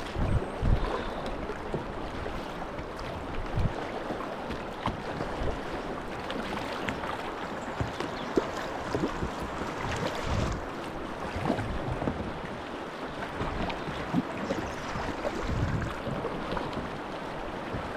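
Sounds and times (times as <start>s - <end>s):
rushing river water: 0.0s - 17.9s
wind buffeting microphone: 0.0s - 17.9s.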